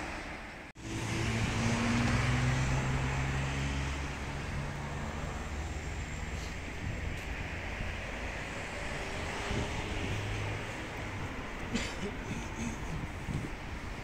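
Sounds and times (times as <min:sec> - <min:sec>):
car engine hum: 0:00.0 - 0:14.0
tyre and road noise: 0:00.0 - 0:14.0.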